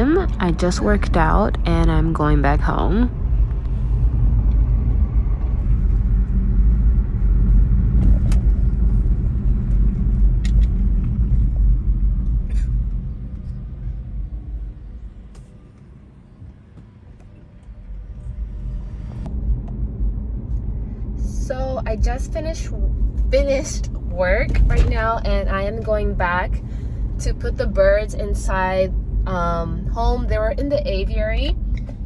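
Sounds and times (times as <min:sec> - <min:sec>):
car road noise rumble: 0:00.0 - 0:32.0.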